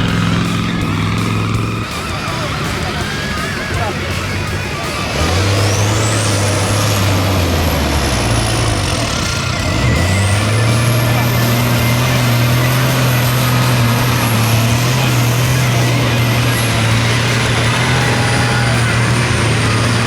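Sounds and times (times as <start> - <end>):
high whine: 0.0 - 20.0
truck engine running hard: 0.0 - 20.0.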